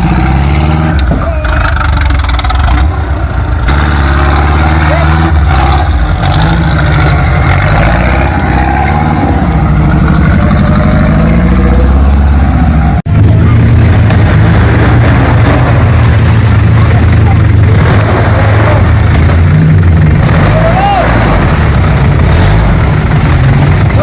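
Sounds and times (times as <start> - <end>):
off-road vehicle engine revving: 0.0 - 24.0
steady engine drone: 0.0 - 24.0.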